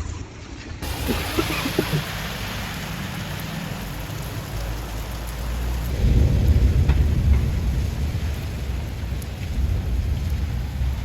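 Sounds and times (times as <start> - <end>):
rain hissing: 0.8 - 11.0.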